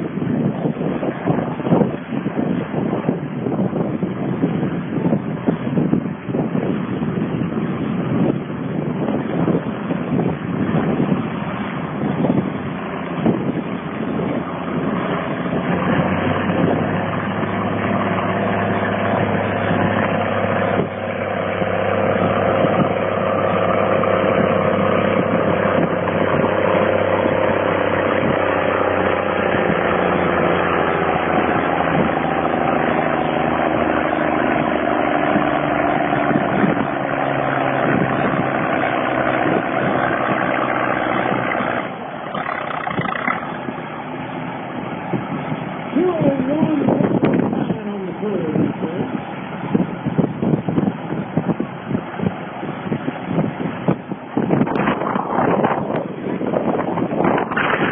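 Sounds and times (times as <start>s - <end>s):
diesel tractor engine under load: 0.0s - 57.9s.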